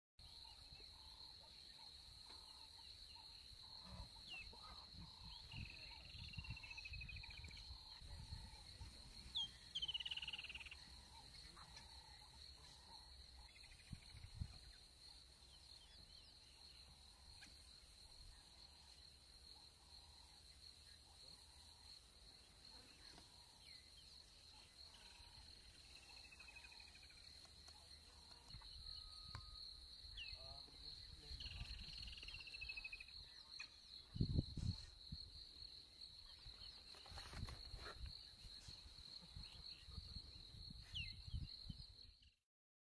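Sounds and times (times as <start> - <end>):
high insect drone: 0.2 - 42.2.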